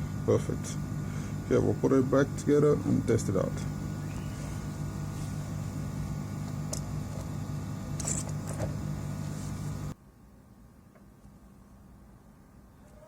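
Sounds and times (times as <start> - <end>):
low machine hum: 0.0 - 10.8.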